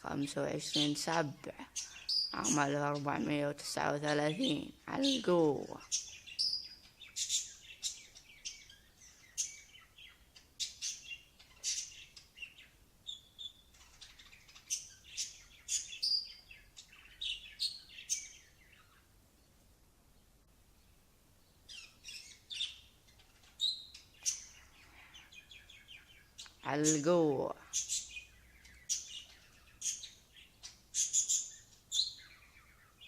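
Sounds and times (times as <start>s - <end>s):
birds chirping high: 0.0s - 33.0s.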